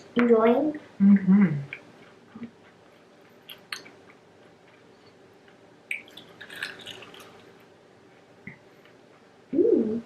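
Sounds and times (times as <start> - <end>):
faint crunching and chewing of snack: 0.0 - 9.6.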